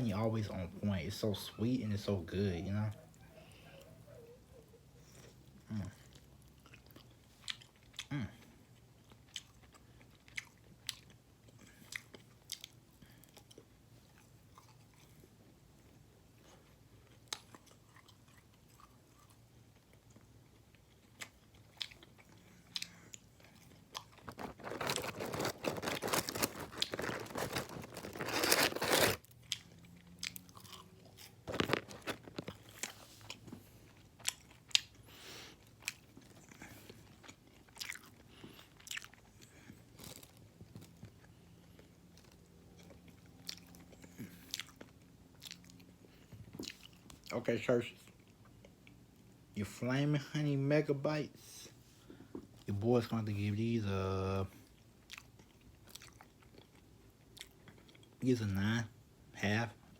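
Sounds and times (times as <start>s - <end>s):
chewing and crunching chicken: 0.2s - 49.6s, 54.4s - 58.8s.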